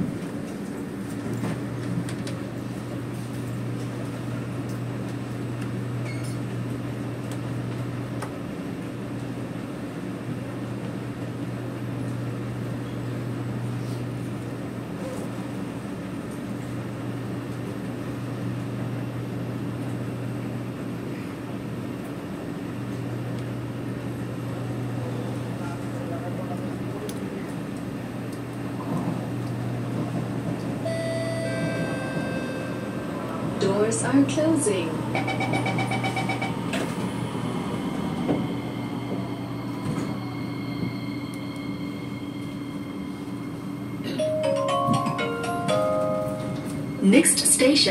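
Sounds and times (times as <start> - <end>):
train air-conditioning hum: 0.0 - 47.9.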